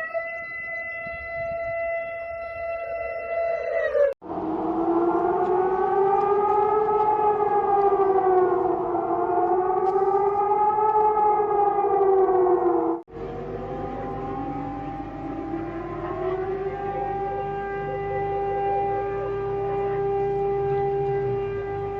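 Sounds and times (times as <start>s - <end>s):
siren-like two-pitch wail: 0.0s - 21.9s
reversed alarm tone sliding down: 4.2s - 21.9s.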